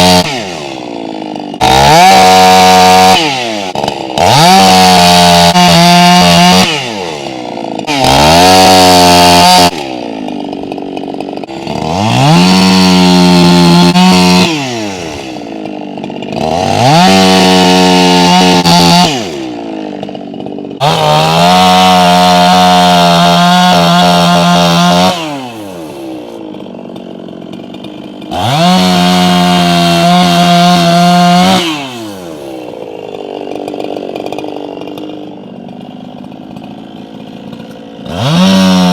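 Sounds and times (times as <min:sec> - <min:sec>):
chainsaw cutting logs: 0:00.0 - 0:38.9.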